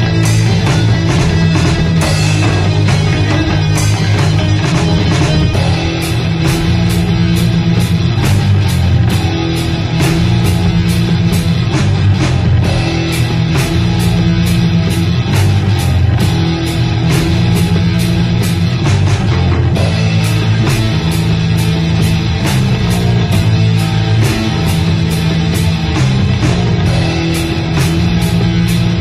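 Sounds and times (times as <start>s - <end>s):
distorted guitar and bass riff: 0.0s - 29.0s
drums: 0.0s - 29.0s.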